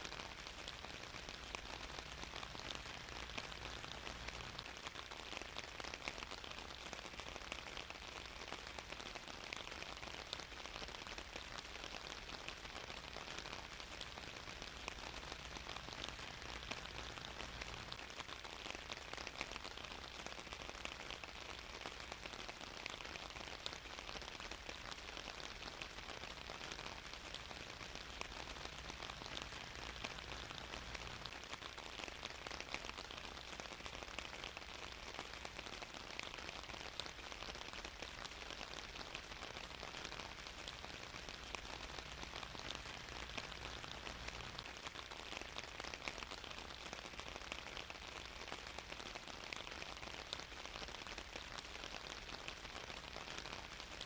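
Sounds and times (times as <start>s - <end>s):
steady rain patter: 0.0s - 54.0s.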